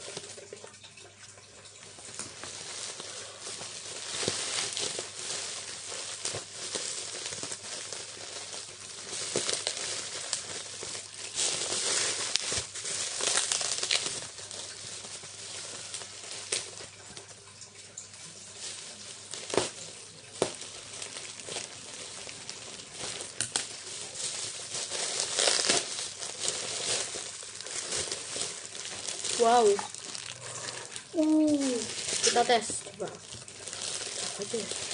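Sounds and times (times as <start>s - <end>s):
plastic packaging crinkling: 0.0s - 34.9s.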